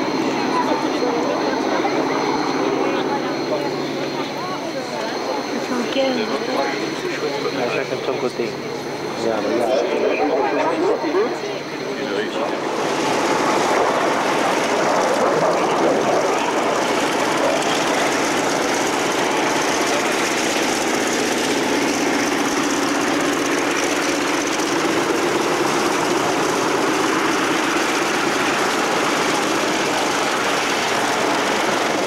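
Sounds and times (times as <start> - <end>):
radial aircraft engine running: 0.0 - 32.0.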